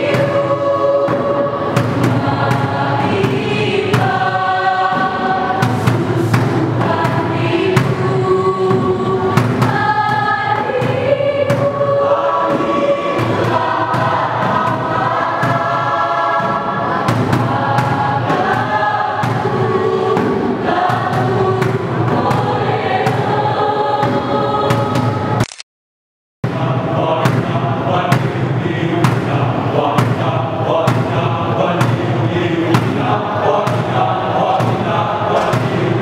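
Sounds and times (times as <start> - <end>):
choir singing chords: 0.0 - 25.4, 26.4 - 36.0.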